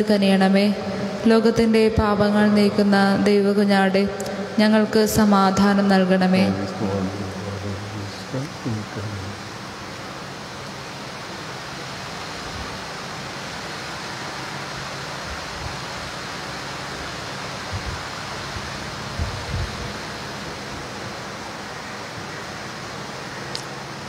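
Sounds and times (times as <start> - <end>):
room noise hiss: 0.0 - 24.0.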